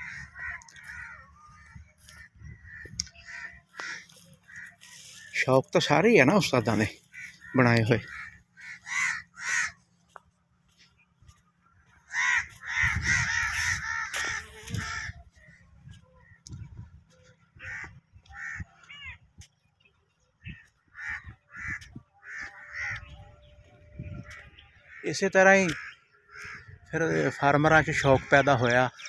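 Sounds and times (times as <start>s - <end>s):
crows cawing: 0.0s - 19.6s, 20.4s - 29.0s.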